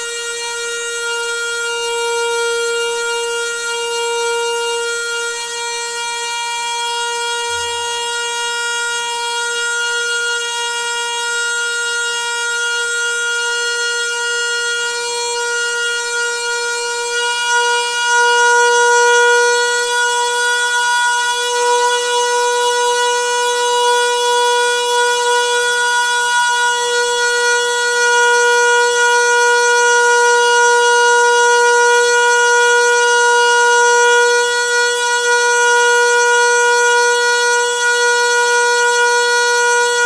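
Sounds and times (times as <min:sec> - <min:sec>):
water pipe humming drone: 0:00.0 - 0:40.0.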